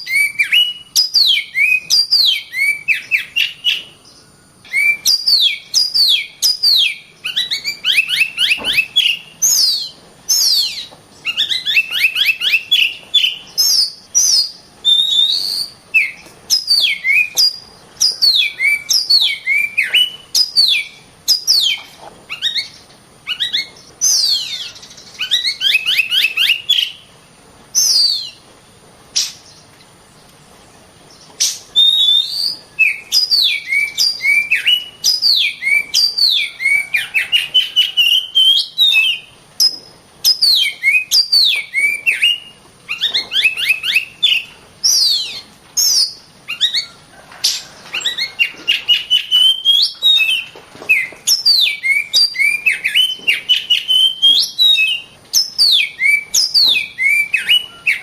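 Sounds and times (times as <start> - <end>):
bird singing whistled notes: 0.0 - 27.1, 27.7 - 28.5, 31.1 - 58.0.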